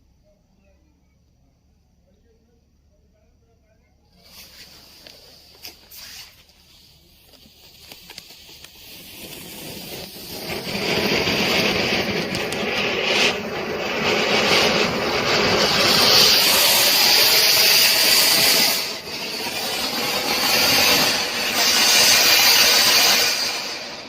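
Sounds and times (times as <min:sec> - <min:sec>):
firecracker hissing sparks: 0:04.1 - 0:24.0.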